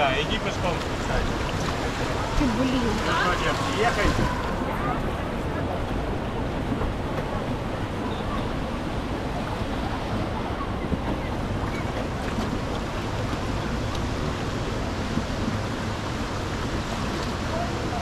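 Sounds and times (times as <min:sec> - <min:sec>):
water rushing: 0:00.0 - 0:18.0
wind buffeting microphone: 0:00.0 - 0:18.0.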